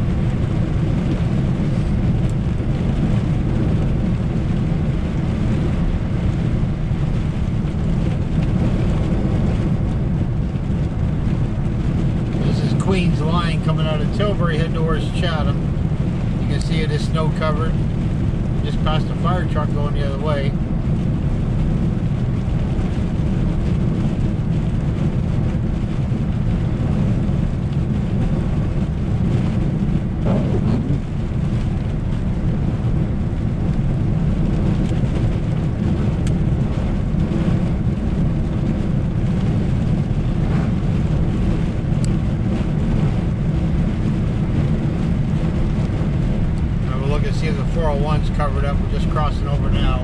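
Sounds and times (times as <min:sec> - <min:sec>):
car engine and tyres on snow: 0:00.0 - 0:50.0.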